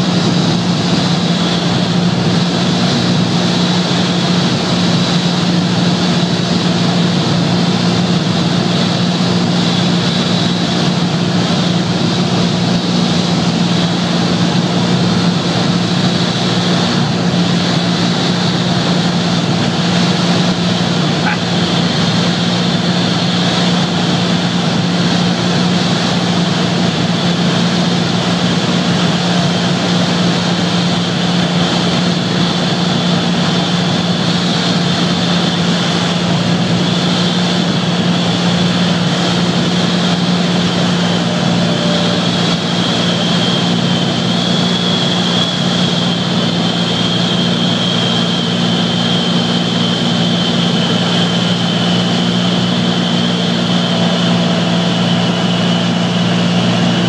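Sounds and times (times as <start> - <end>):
airplane engine and propeller drone: 0.0 - 57.0
high whine: 0.0 - 57.0.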